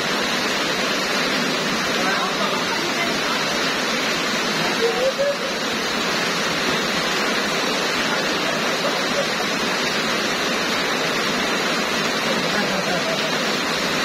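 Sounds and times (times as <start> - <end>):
heavy rain on a wet road: 0.0 - 14.0.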